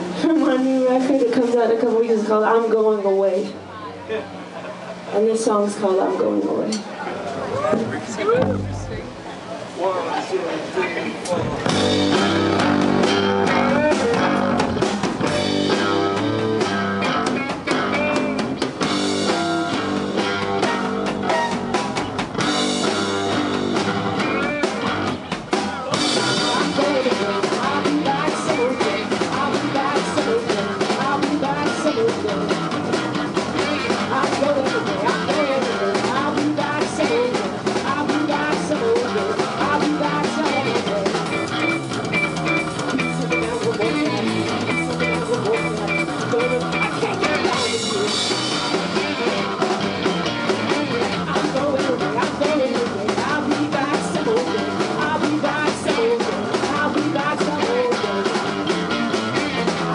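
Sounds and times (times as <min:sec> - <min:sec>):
rock band playing: 0:07.2 - 0:09.8, 0:11.3 - 0:59.9
drums beat: 0:07.6 - 0:09.3, 0:11.3 - 0:59.9.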